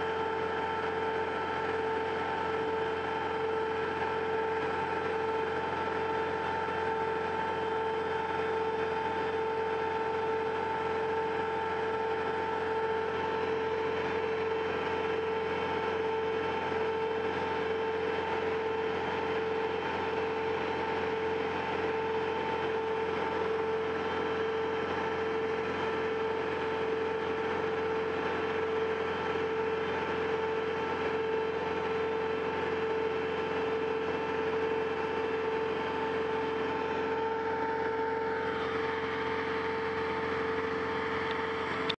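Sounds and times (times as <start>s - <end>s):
travel lift engine hum and whine: 0.0s - 41.9s.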